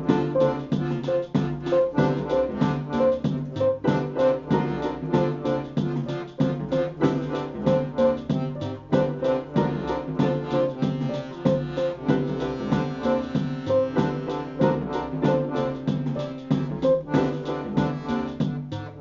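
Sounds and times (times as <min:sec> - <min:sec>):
accordion and keyboard chords: 0:00.0 - 0:19.0
programmed beat: 0:00.0 - 0:19.0.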